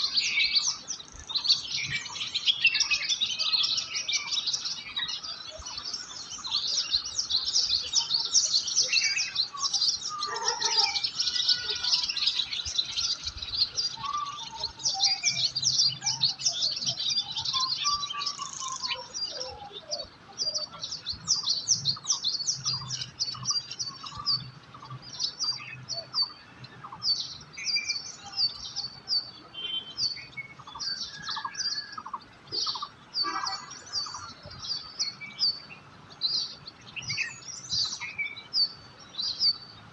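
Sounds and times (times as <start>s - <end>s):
gliding whistled bird calls: 0.0s - 39.7s
small birds chirping: 0.0s - 39.9s.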